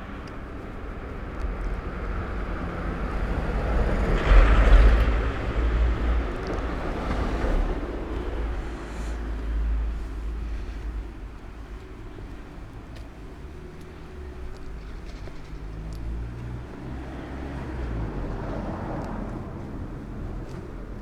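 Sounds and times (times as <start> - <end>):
vehicle passing: 0.0 - 21.0.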